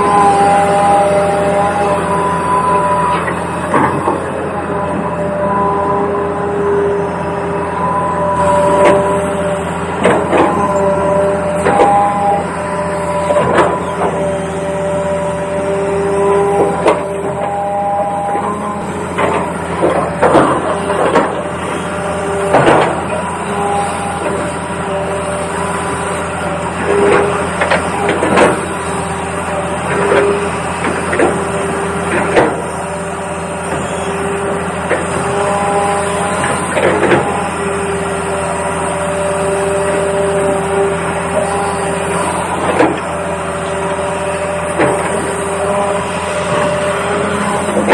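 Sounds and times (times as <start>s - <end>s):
small electric motors whining: 0.0s - 47.9s.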